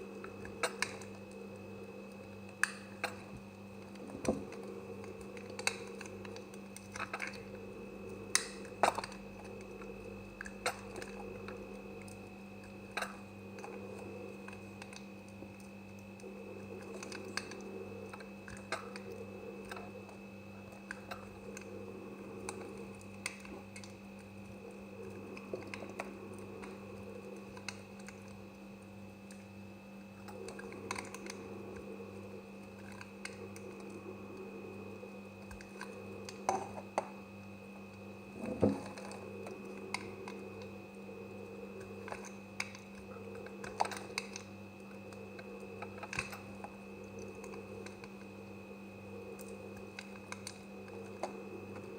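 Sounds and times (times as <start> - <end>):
steady background hum: 0.0 - 51.9.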